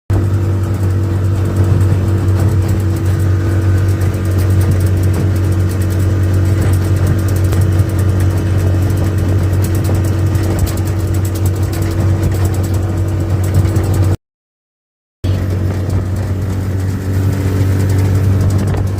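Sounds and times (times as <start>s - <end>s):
outboard motor running: 0.1s - 14.2s, 15.2s - 18.9s.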